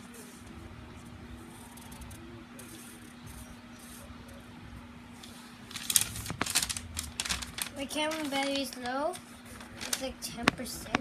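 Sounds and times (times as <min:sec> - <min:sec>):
low electrical hum and hiss: 0:00.0 - 0:11.0.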